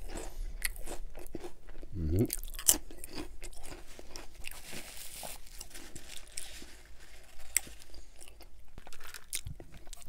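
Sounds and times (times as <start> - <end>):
chewing crunchy potato chip: 0.0 - 10.0.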